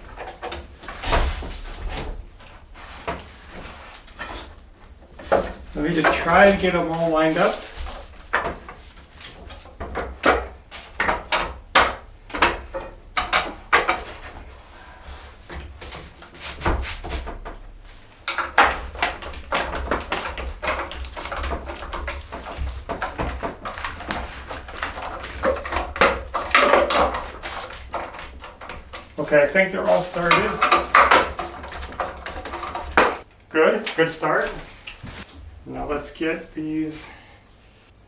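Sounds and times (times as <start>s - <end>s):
metal rods clattering in wood: 0.0s - 33.3s.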